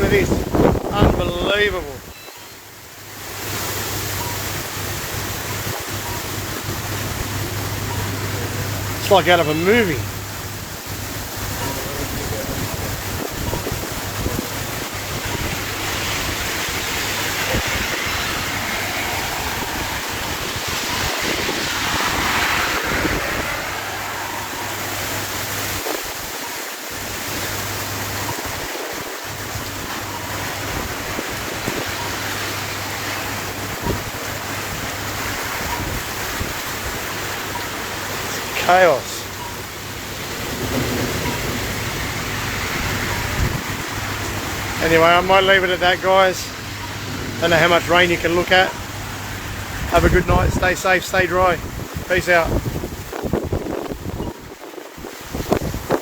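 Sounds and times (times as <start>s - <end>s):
wind buffeting microphone: 0.0s - 9.0s, 10.0s - 38.3s, 39.2s - 56.0s
wind-driven rain hissing: 0.0s - 56.0s.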